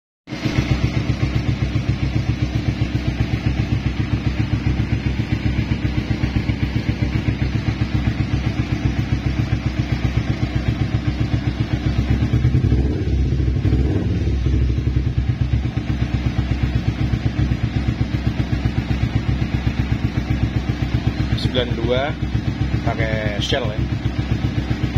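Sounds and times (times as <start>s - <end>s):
motorcycle engine idling: 0.3s - 24.9s.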